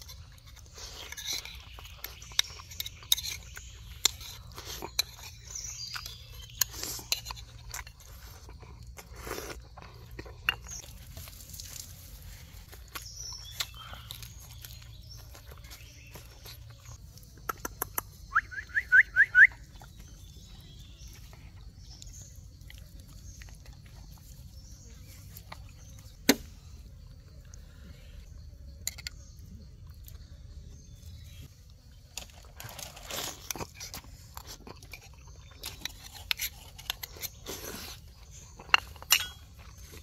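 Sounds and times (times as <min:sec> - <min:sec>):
food crunching and chewing: 0:00.0 - 0:40.0.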